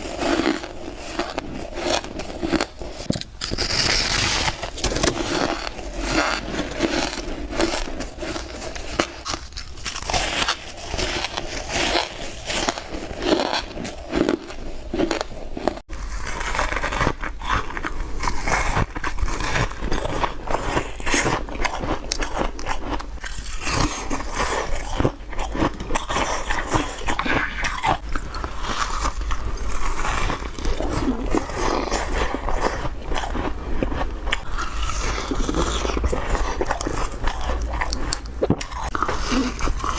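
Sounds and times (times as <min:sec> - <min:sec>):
ice crunched between teeth: 0:00.0 - 0:39.9.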